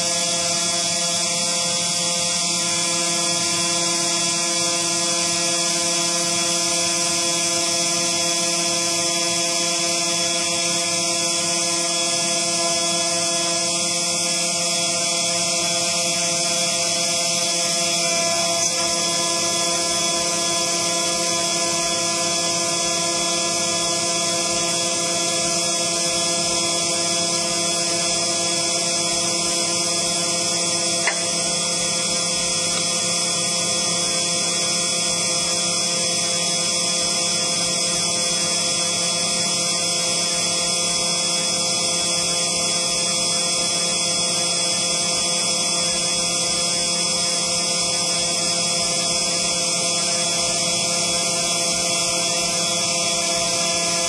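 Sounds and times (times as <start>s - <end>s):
engraving machine whining: 0.0s - 54.0s.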